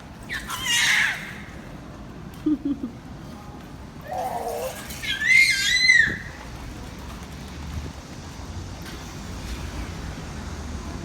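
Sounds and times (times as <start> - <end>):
low rumble of background noise: 0.0 - 11.0.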